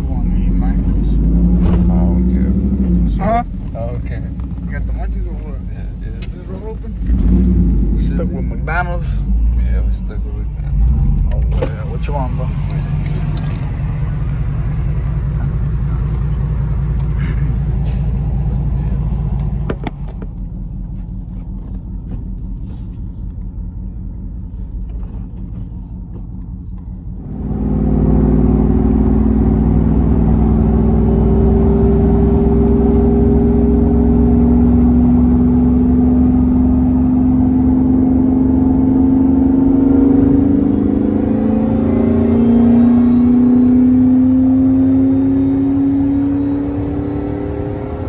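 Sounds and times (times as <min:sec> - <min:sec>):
road rumble: 0:00.0 - 0:48.0
vehicle engine from inside cabin: 0:00.0 - 0:48.0.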